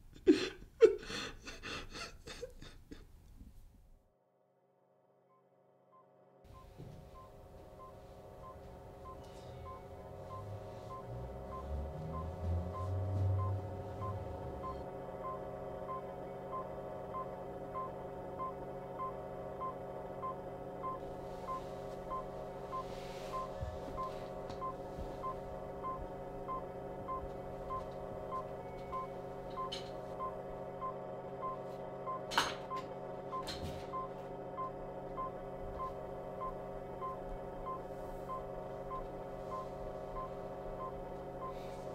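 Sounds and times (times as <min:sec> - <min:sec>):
multi-tone electronic hum: 0:05.0 - 0:41.9.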